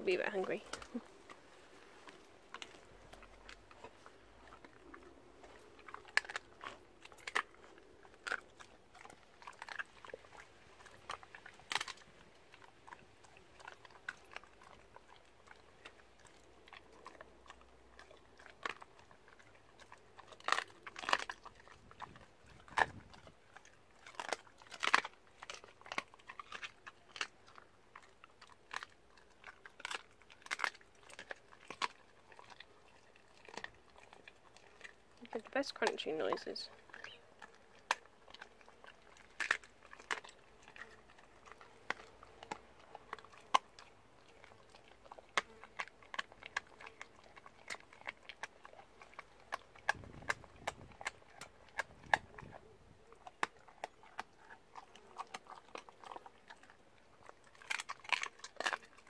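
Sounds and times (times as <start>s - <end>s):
wet chewing: 0.1s - 59.0s
dog crunching bones: 0.2s - 59.0s.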